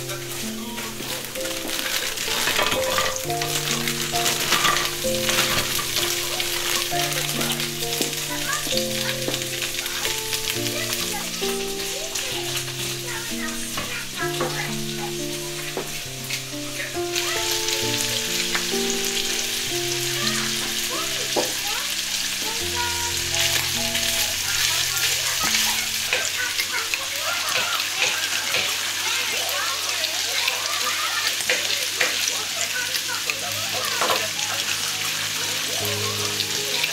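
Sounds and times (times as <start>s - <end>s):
slow gentle background music: 0.0s - 27.0s, 32.9s - 36.9s
chicken sizzling in a pan: 0.0s - 36.9s.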